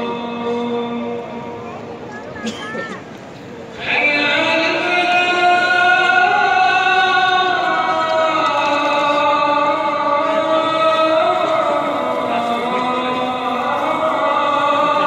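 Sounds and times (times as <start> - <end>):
man chanting over loudspeakers: 0.0 - 2.0, 3.7 - 15.0
faint crowd hum: 0.0 - 15.0.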